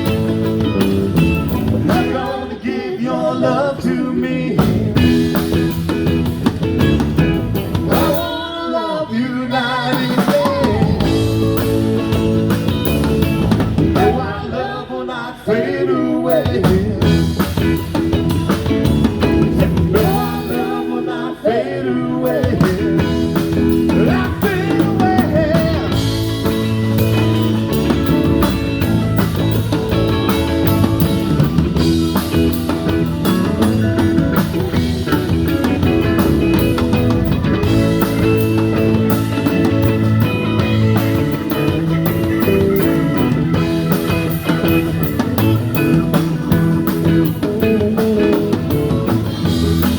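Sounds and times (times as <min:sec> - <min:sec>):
band playing blues-rock: 0:00.0 - 0:14.8, 0:16.1 - 0:49.9.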